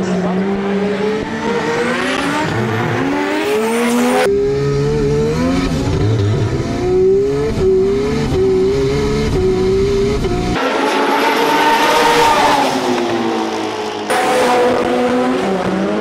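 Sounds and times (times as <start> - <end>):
race car engine accelerating: 0.0 - 16.0.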